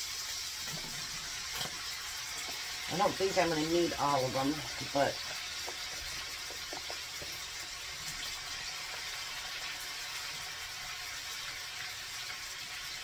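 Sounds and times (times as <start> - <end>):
mushrooms sizzling in a skillet: 0.0 - 13.0.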